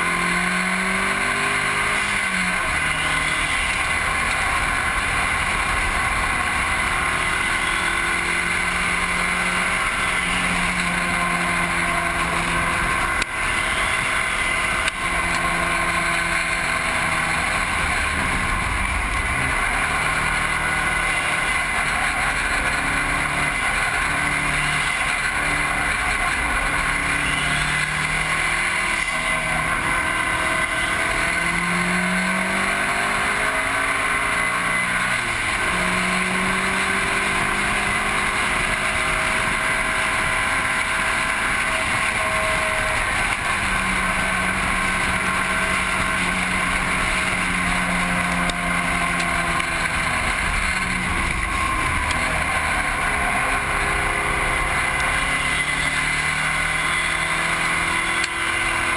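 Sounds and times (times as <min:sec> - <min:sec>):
car engine revving: 0:00.0 - 0:58.9
wind and tyre noise: 0:00.0 - 0:58.9.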